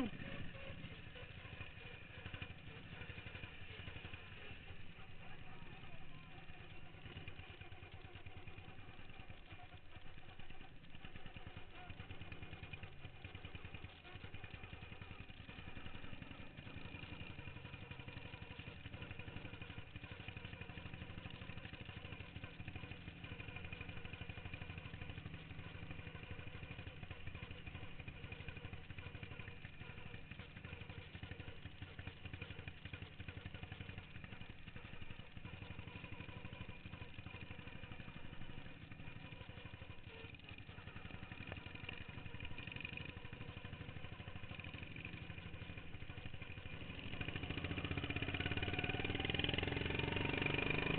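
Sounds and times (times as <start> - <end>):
lawn mower engine running: 0.0 - 50.9.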